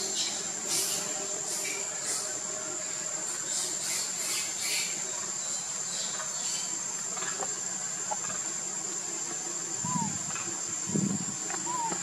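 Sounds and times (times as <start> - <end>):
insects shrilling: 0.0 - 12.0.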